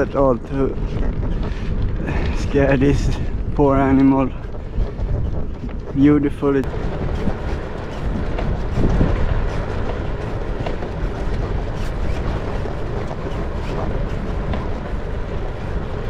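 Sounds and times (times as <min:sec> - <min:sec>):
bicycle tyres rolling on asphalt: 0:00.0 - 0:16.0
wind on microphone: 0:00.0 - 0:16.0.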